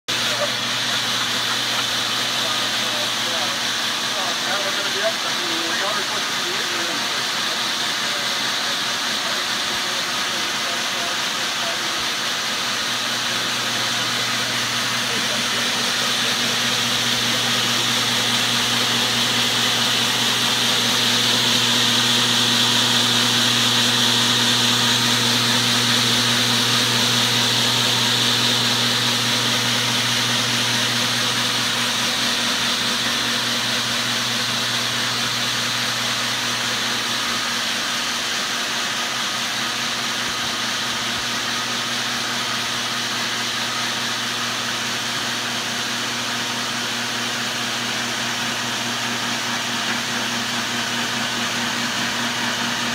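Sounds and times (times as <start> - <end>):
electric motor hum: 0.1 - 52.9.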